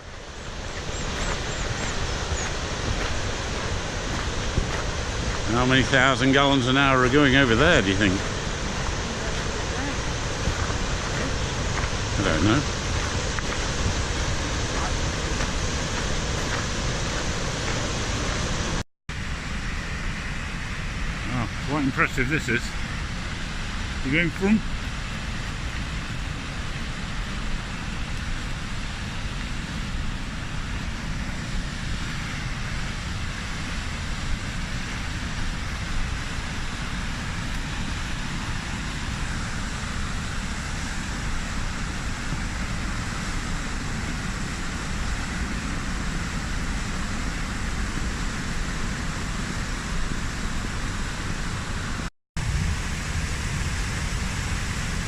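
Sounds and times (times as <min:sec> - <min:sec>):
waterfall rushing: 0:00.0 - 0:18.8, 0:19.7 - 0:55.0.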